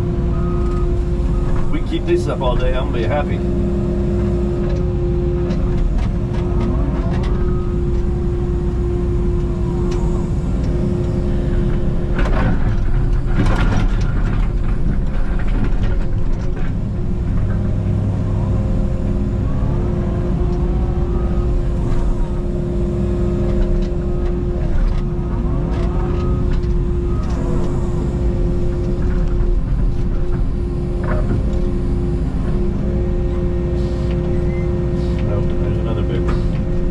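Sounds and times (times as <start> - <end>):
diesel engine under load: 0.0 - 36.9
hydraulics whining: 0.0 - 36.9.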